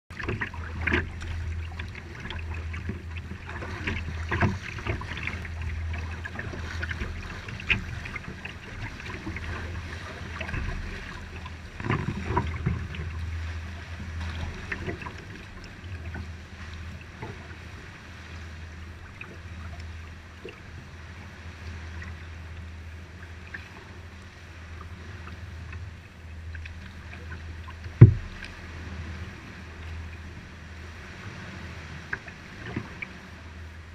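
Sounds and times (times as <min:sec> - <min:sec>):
low rumble: 0:00.1 - 0:33.9
paddle strokes splashing: 0:00.1 - 0:33.9
water lapping at hull: 0:00.1 - 0:33.9.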